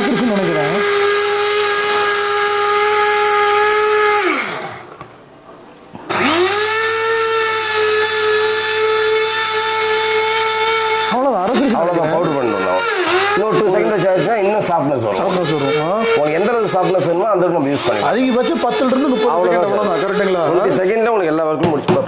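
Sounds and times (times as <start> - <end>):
electric grinder motor whining: 0.0 - 4.9, 6.1 - 20.9.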